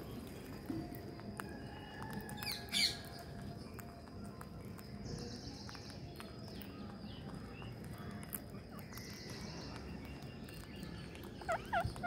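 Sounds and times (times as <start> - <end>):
faint bird chirps: 0.0 - 12.0
outdoor background noise: 0.0 - 12.0
parakeets pecking at seed: 0.0 - 12.0.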